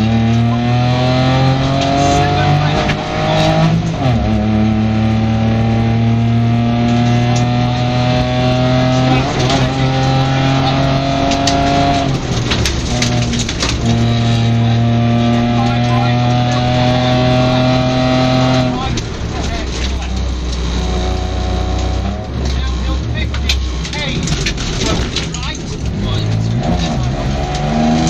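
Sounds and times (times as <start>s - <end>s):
rally car engine under full throttle: 0.0s - 28.0s.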